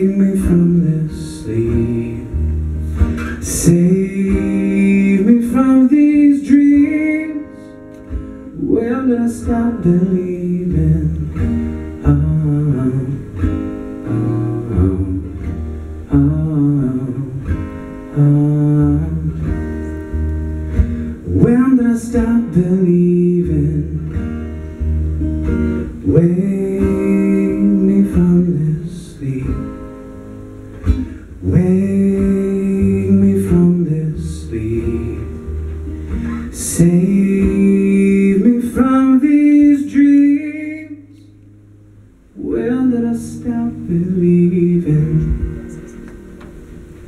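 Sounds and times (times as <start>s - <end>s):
man singing into a microphone: 0.0s - 2.6s, 3.2s - 7.9s, 8.5s - 19.9s, 21.2s - 24.3s, 25.8s - 30.1s, 31.0s - 41.4s, 42.4s - 46.0s
acoustic guitar strumming: 0.0s - 47.0s.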